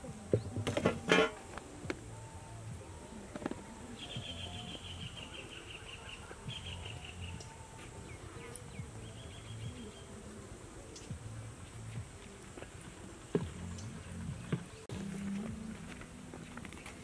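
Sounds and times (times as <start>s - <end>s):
low steady background: 0.0s - 17.0s.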